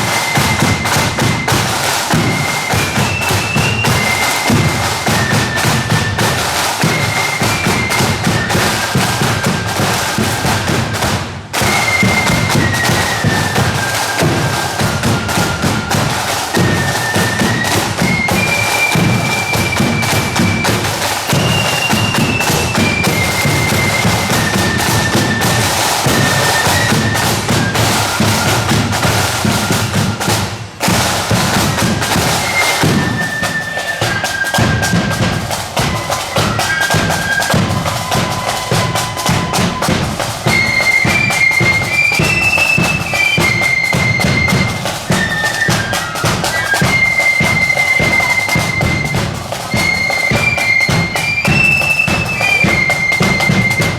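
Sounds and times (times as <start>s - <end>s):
marching drum beat: 0.0s - 53.9s
shrill flutes playing melody: 0.0s - 53.9s.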